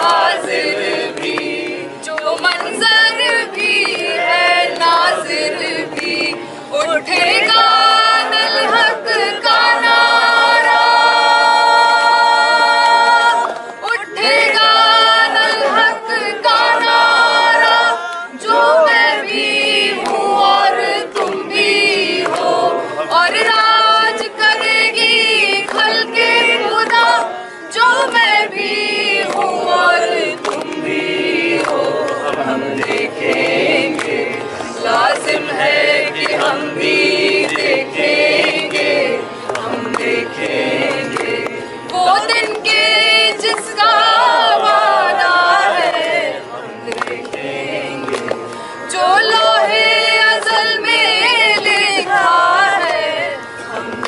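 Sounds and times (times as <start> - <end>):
group singing in chorus: 0.0 - 54.0.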